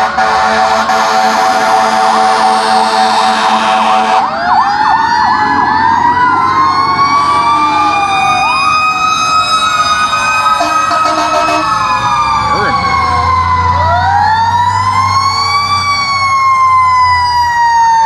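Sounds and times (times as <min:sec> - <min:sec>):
fire truck sirens: 0:00.0 - 0:18.0.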